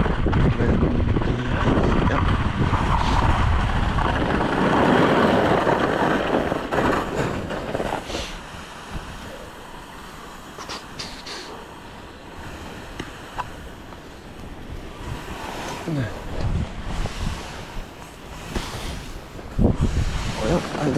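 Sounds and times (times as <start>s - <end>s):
wind on microphone: 0.0s - 20.9s
skis sliding on snow: 0.1s - 20.9s.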